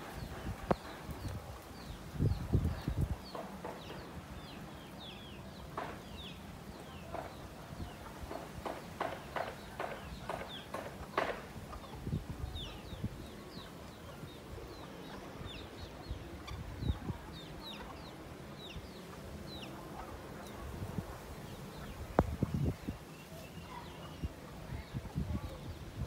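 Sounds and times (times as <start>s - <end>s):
chickens chirping: 0.0s - 26.0s
chickens clucking: 0.0s - 26.0s.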